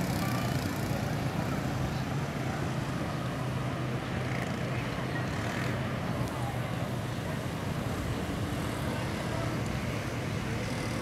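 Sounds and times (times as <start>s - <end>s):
motor vehicle engine hum: 0.0s - 11.0s.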